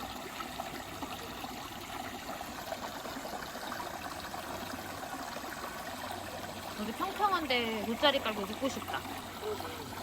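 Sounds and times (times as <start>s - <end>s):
stream water over rocks: 0.0s - 10.0s.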